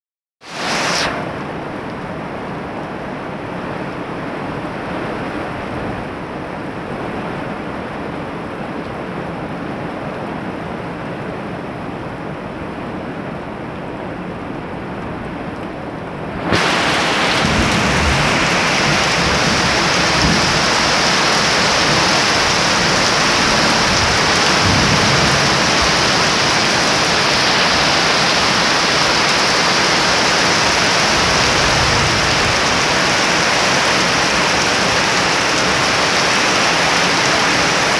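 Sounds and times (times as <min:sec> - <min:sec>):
heavy rain pouring: 0:00.4 - 0:37.9.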